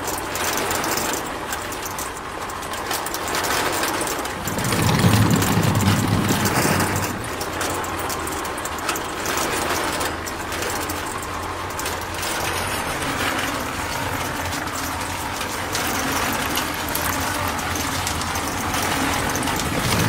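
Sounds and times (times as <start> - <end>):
toy gears clicking and rattling: 0.0 - 20.0.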